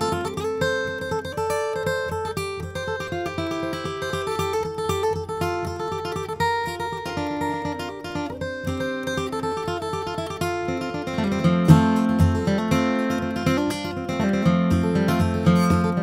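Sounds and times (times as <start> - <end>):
acoustic guitar bluegrass playing: 0.0 - 16.0.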